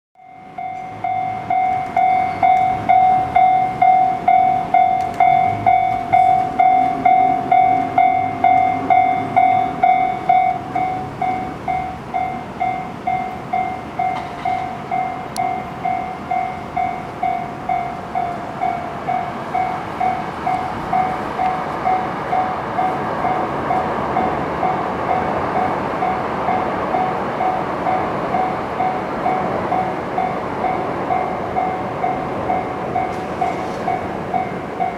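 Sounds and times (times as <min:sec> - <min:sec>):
freight train rumble: 0:00.2 - 0:34.9
level-crossing alarm dinging: 0:00.2 - 0:34.9.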